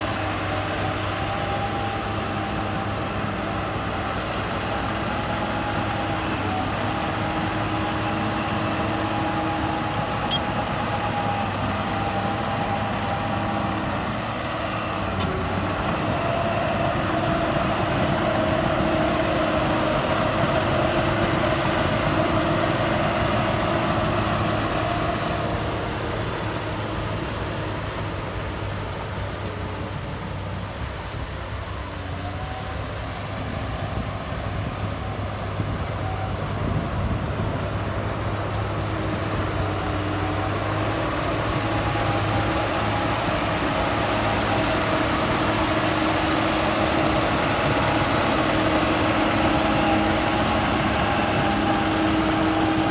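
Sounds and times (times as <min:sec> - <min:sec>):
diesel earthmoving machine running: 0:00.0 - 0:52.9.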